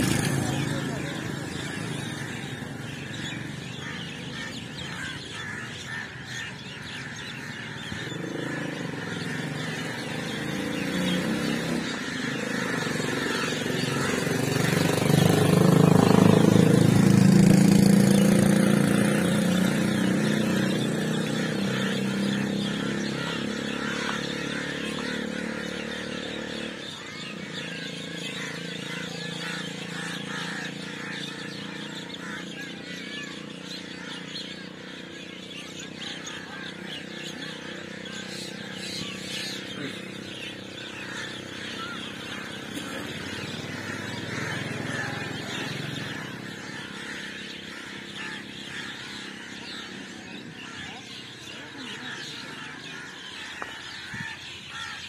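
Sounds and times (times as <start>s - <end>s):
vehicle engine passing by: 0.0s - 55.0s.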